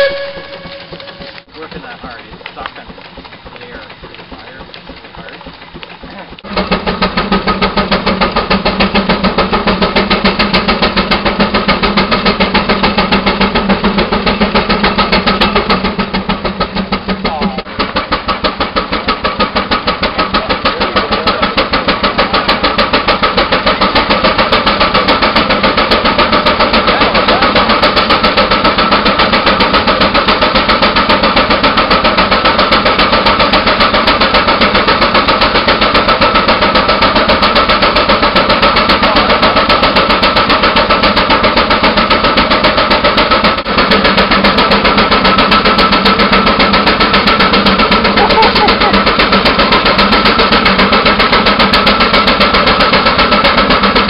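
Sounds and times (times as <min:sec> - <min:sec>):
steam engine exhaust chuffing: 0:00.0 - 0:54.0.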